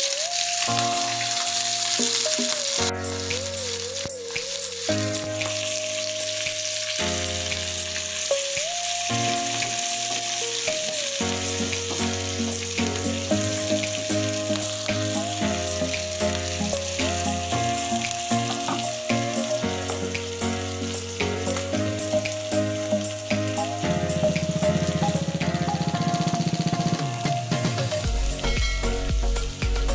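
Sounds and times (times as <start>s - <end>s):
vegetables sizzling in oil: 0.0s - 29.9s
background music with bass line: 0.7s - 29.9s.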